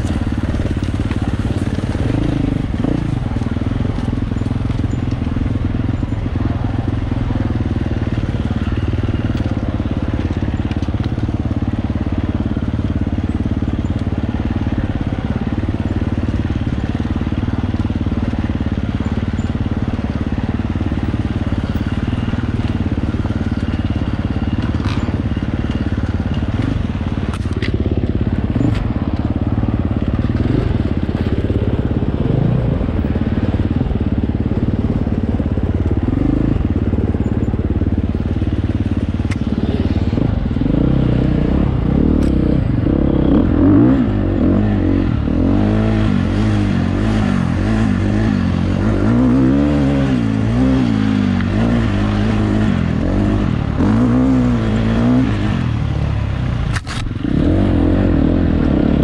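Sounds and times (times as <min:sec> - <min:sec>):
dirt bike engine revving: 0:00.0 - 0:10.6, 0:14.4 - 0:37.5, 0:38.1 - 0:55.8, 0:56.6 - 0:59.0.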